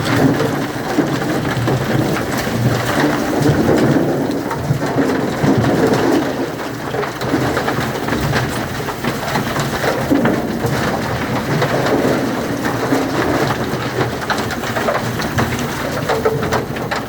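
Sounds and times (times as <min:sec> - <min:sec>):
concrete mixer drum rumbling: 0:00.0 - 0:17.0.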